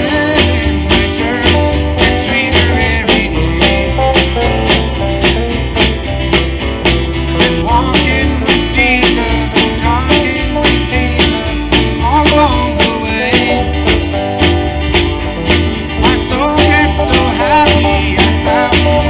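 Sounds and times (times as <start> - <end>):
bass: 0.0 - 19.0
drum kit beat: 0.0 - 19.0
guitar: 0.0 - 19.0.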